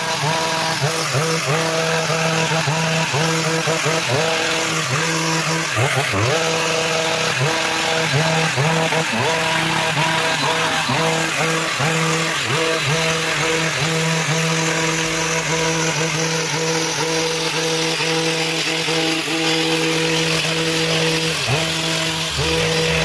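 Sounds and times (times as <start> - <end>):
hedge trimmer cutting: 0.0 - 23.0.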